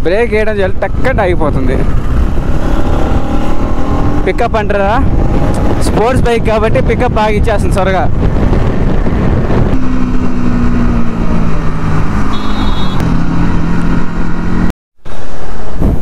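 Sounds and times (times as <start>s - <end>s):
motorcycle engine: 0.0s - 7.1s, 8.1s - 15.6s
noisy street scene: 0.0s - 16.0s
wind rush on microphone: 0.0s - 16.0s.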